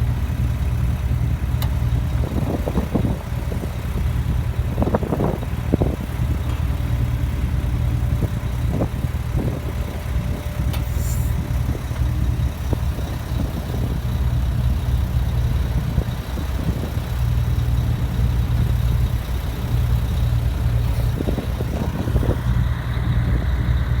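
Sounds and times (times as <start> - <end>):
heavy equipment engine running: 0.0 - 24.0.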